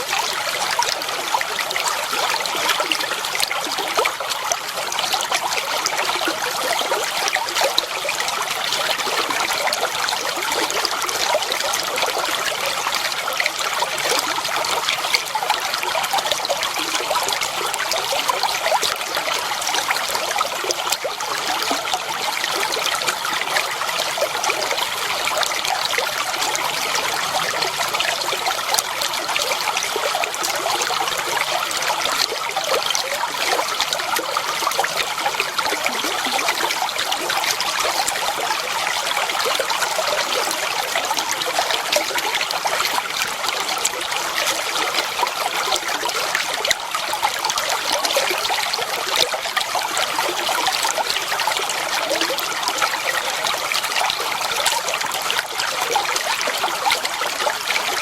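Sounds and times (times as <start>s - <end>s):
water flowing and trickling: 0.0s - 58.0s.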